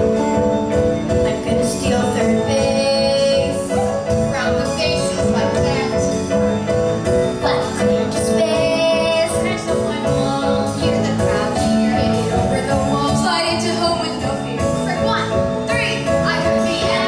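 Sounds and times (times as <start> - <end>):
drums: 0.0 - 17.0
piano: 0.0 - 17.0.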